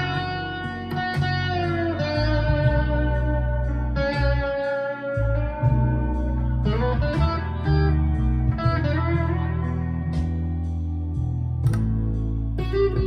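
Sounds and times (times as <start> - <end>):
overdriven electric guitar: 0.0 - 13.0.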